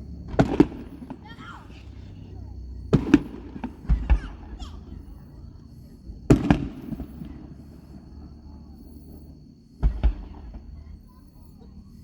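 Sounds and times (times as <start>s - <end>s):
fireworks booming: 0.0s - 12.0s.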